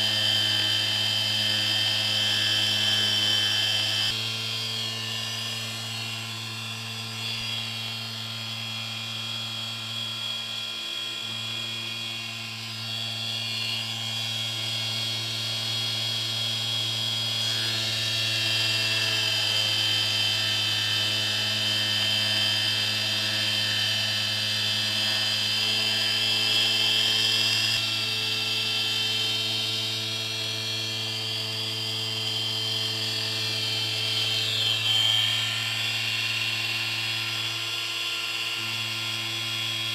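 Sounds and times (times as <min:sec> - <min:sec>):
stepper motor whine: 0:00.0 - 0:39.9.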